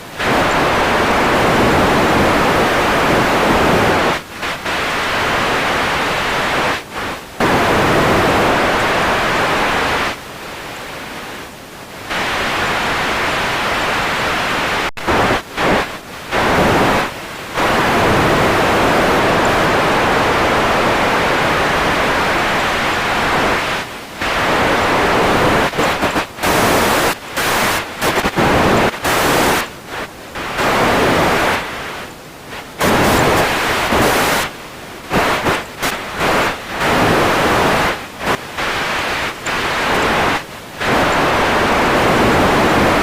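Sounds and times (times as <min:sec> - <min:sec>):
radio static hiss: 0:00.0 - 0:43.0.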